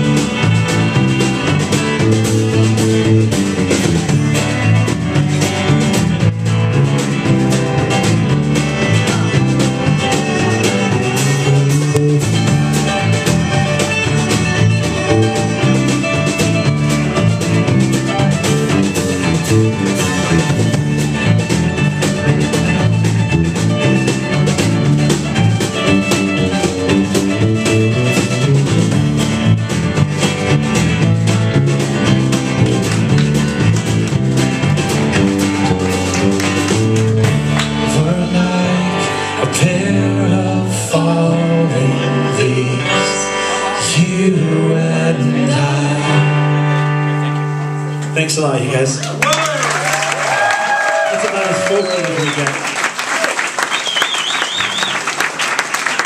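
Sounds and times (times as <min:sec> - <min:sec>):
second guitar: 0:00.0 - 0:52.7.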